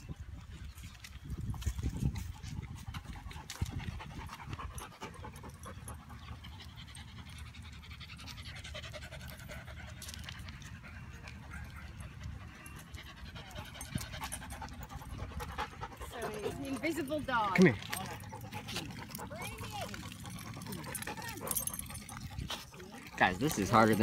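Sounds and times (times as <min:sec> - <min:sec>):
dog panting: 0:02.2 - 0:24.0.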